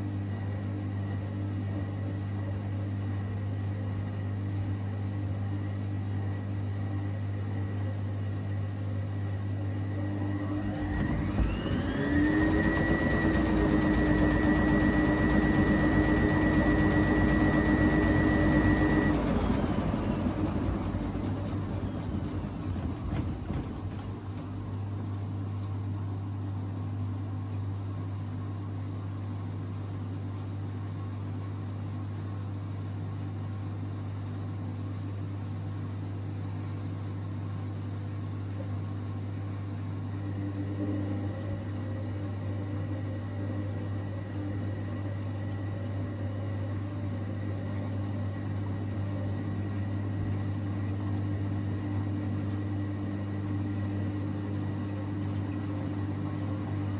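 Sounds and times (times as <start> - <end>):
washing machine motor whine: 0.0 - 27.2, 36.2 - 56.9.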